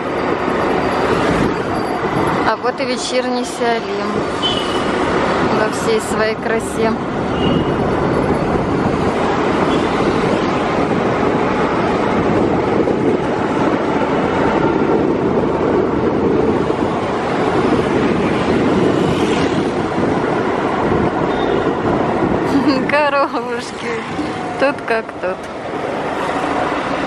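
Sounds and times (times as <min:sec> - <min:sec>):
road noise on wet road: 0:00.0 - 0:27.0
wind rush: 0:00.0 - 0:27.0.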